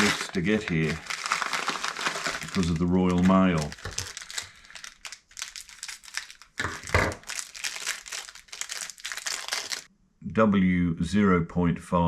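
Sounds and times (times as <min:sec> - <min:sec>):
packet crinkling and tearing: 0:00.0 - 0:09.9.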